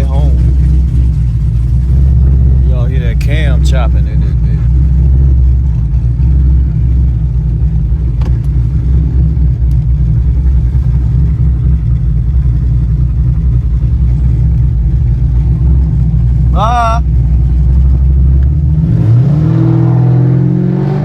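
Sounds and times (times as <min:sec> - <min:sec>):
car engine idling with choppy lope: 0:00.0 - 0:21.0.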